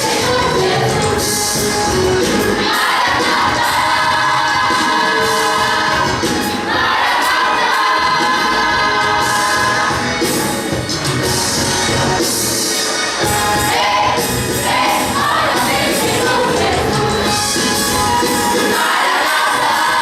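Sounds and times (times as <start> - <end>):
vocal group singing gospel: 0.0 - 1.6, 2.4 - 10.6, 13.5 - 20.0.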